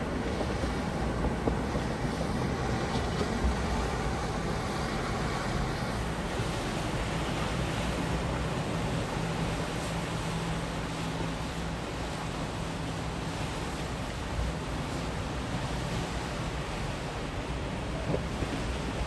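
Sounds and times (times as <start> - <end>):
boat engines running: 0.0 - 19.0
water wash: 0.0 - 19.0
wind buffeting microphone: 0.0 - 19.0.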